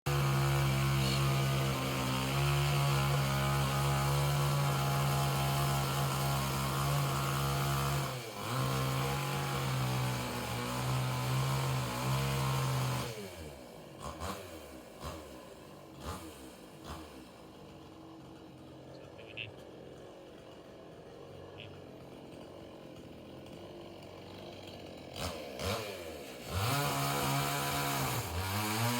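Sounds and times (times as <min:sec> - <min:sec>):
chainsaw engine running: 0:00.1 - 0:28.9.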